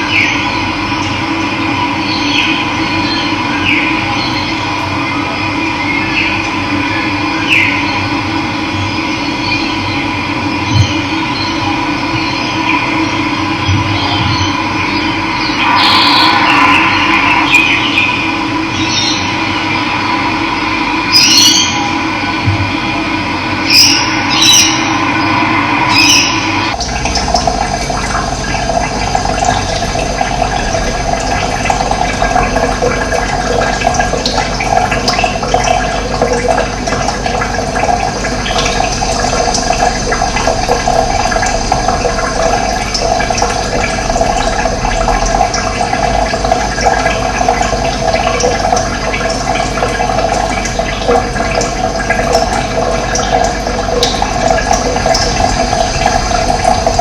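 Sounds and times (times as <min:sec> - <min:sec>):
running water rushing: 0:10.8 - 0:57.0.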